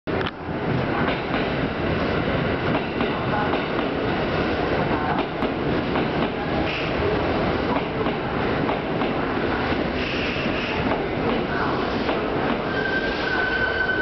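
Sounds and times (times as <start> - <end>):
train wheels rumbling on rail: 0.1 - 14.0.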